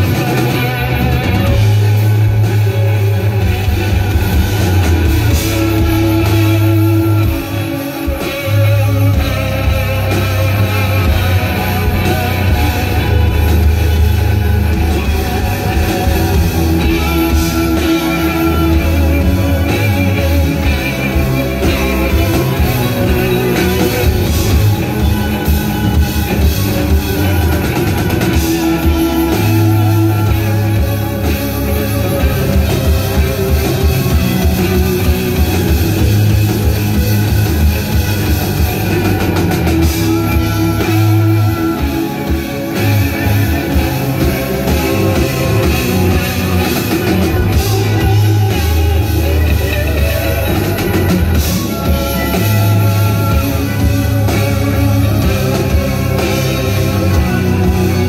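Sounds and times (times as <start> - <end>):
electric guitar: 0.0 - 58.0
heavy bass line: 0.0 - 58.0
live rock band playing: 0.0 - 58.0.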